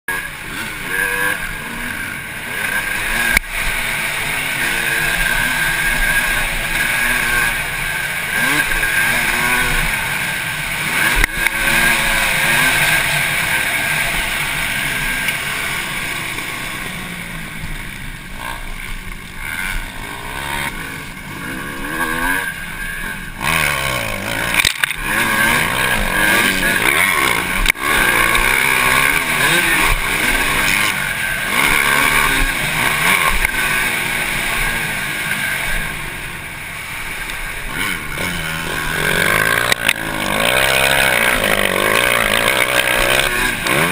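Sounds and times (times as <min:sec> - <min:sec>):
dirt bike engine revving: 0:00.1 - 0:43.9.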